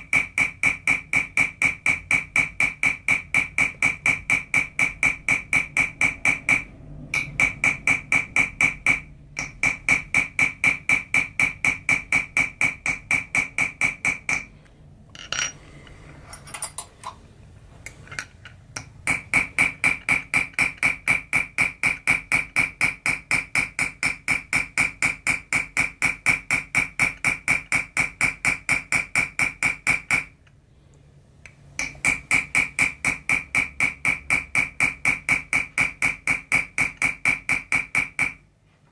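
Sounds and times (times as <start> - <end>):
hammer tapping metal tool: 0.0 - 15.6, 16.3 - 17.2, 18.0 - 30.5, 31.4 - 38.5.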